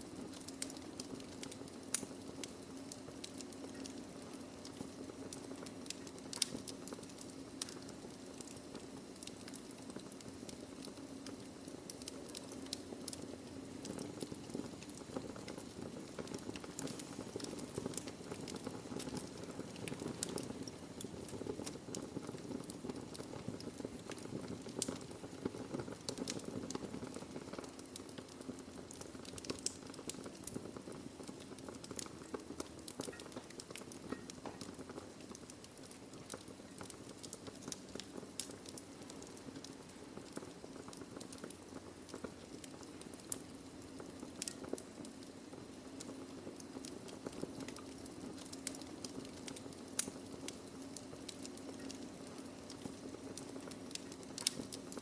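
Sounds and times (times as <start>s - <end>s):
low hiss of burning logs: 0.0s - 55.0s
wood fire crackling and popping: 0.0s - 55.0s.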